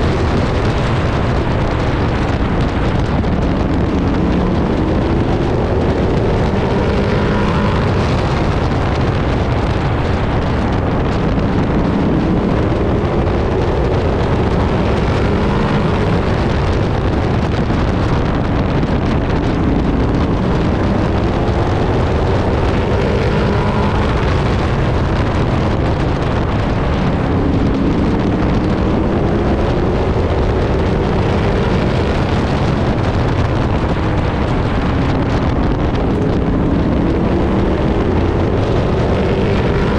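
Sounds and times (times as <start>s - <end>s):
truck engine revving: 0.0s - 39.9s
wind noise: 0.0s - 39.9s.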